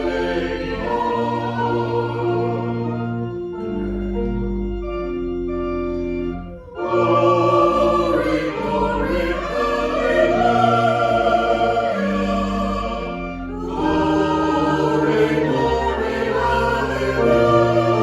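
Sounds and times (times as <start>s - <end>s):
choir singing: 0.0s - 4.2s, 6.4s - 18.0s
organ chords: 0.0s - 18.0s.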